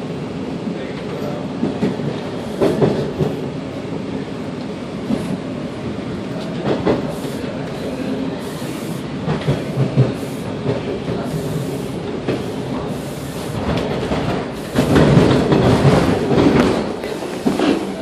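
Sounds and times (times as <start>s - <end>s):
subway wheels rumbling on track: 0.0s - 18.0s
rail clacks: 0.8s - 18.0s.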